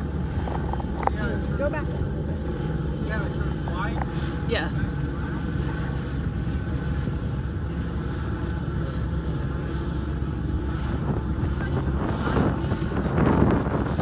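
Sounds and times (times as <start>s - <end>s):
engine running: 0.0s - 14.0s
rush of noise: 0.0s - 14.0s.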